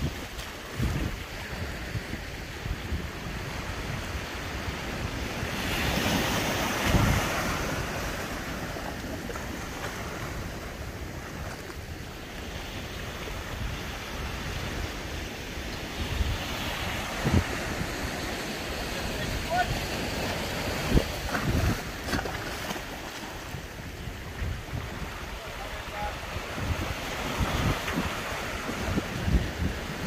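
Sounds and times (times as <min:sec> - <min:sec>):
surf washing in: 0:00.0 - 0:30.0
wind rumble on microphone: 0:00.0 - 0:30.0.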